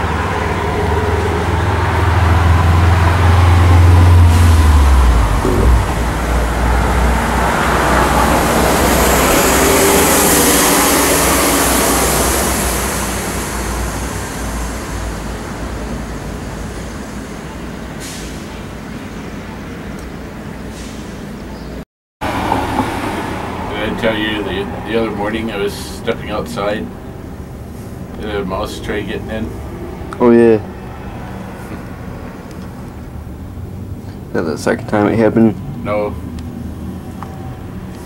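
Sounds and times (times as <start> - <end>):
heavy vehicle engine rumble: 0.0 - 21.6, 22.2 - 38.0
road and air noise: 0.0 - 38.0.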